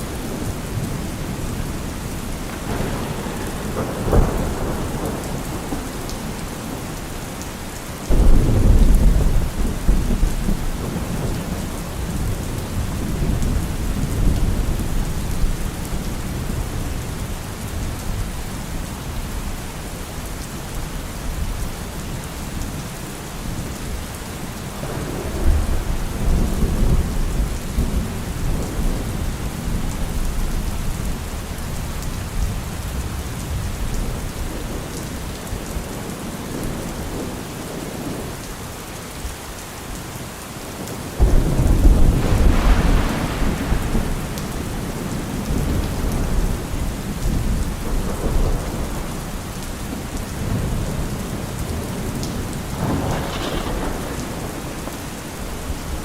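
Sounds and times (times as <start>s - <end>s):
rolling thunder: 0.0s - 7.4s, 8.1s - 18.5s, 24.7s - 38.4s, 41.2s - 56.0s
steady rain: 0.0s - 56.0s.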